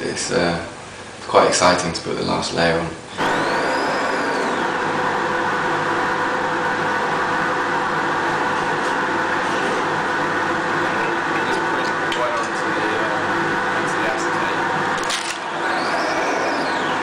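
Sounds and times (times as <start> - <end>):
electric motor whirring: 3.1 - 17.0.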